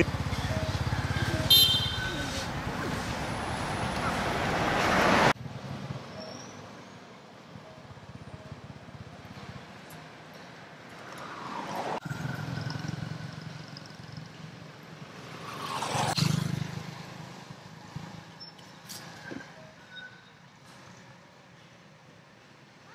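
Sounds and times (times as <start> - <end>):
vehicles passing by: 0.0 - 22.9.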